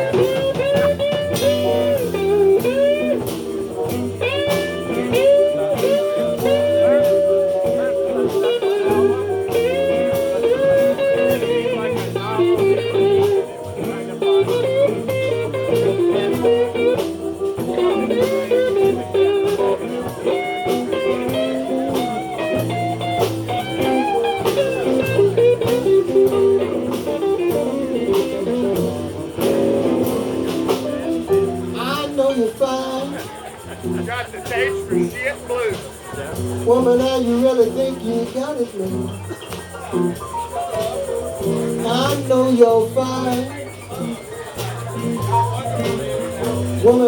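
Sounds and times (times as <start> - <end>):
bass: 0.0 - 47.0
blues lead guitar with bent notes: 0.0 - 47.0
steady drum beat: 0.0 - 47.0.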